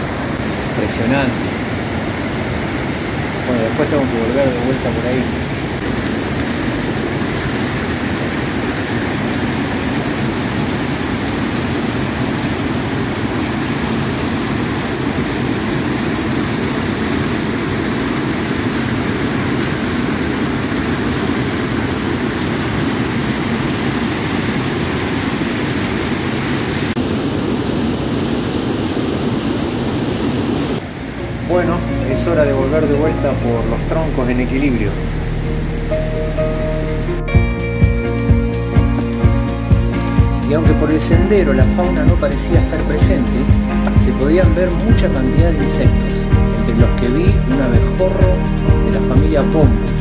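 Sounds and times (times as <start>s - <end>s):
whitewater crashing over rocks: 0.0s - 37.3s, 38.7s - 50.0s.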